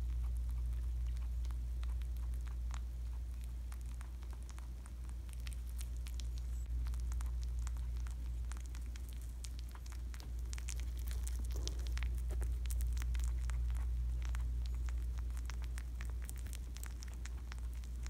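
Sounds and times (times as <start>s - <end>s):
rabbit chewing: 0.0s - 18.0s
steady low hum: 0.0s - 18.0s.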